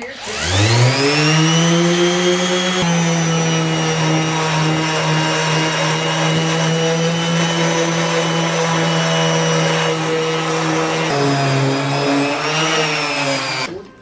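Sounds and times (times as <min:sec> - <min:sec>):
small electric motor whining: 0:00.0 - 0:13.7.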